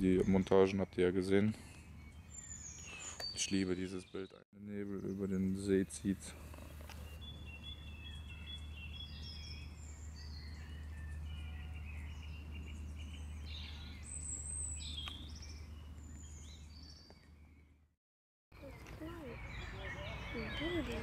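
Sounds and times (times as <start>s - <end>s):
birds singing and chirping: 0.0s - 17.9s, 18.6s - 21.0s.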